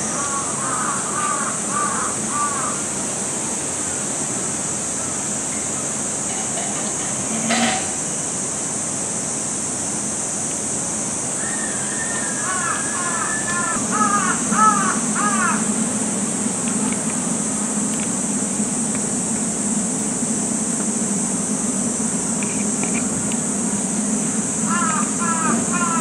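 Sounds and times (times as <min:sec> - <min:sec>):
cicadas chorus: 0:00.0 - 0:26.0.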